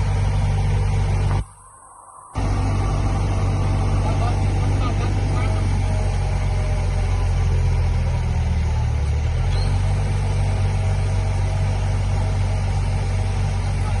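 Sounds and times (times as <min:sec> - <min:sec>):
heavy diesel engine running: 0:00.0 - 0:01.4, 0:02.4 - 0:14.0.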